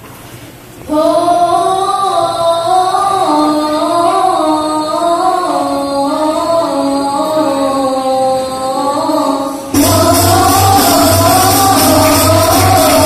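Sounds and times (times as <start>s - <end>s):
woman singing devotional song: 0.9s - 13.0s.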